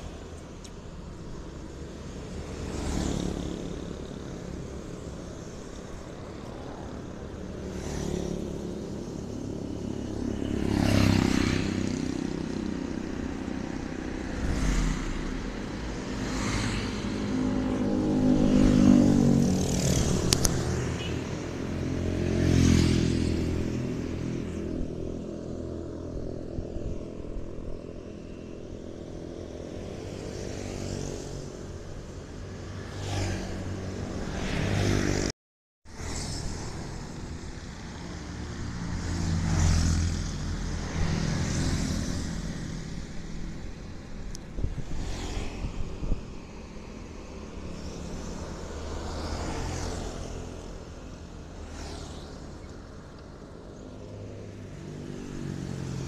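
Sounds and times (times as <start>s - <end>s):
hum of running engines: 0.0s - 35.3s, 35.9s - 56.0s
cars and motorcycles passing: 0.0s - 56.0s.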